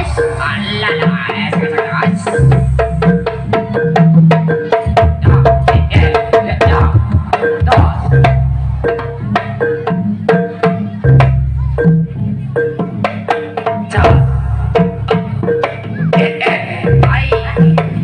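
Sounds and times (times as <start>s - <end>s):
hand drums fast rhythm: 0.0s - 18.0s.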